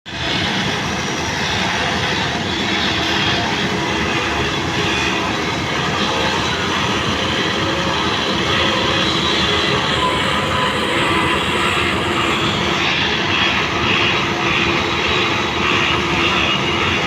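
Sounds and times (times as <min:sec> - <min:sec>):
heavy engine running steadily: 0:00.0 - 0:17.0.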